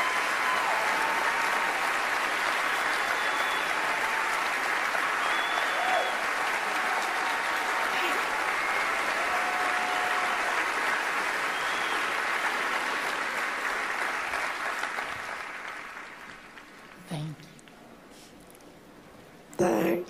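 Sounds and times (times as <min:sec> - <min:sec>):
audience applauding: 0:00.0 - 0:17.1.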